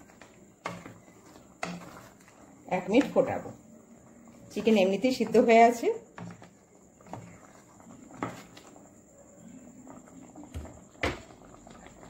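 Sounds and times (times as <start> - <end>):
thick gravy simmering: 0.0 - 12.0.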